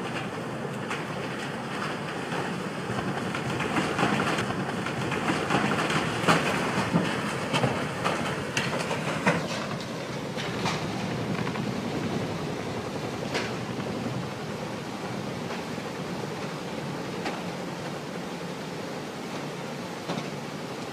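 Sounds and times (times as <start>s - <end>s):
churning propeller wash: 0.0s - 20.9s.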